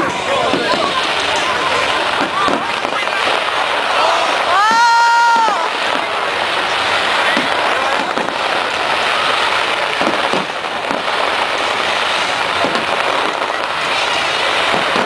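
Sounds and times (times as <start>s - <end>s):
deep firework bursts: 0.0s - 15.0s
fireworks crackling: 0.0s - 15.0s.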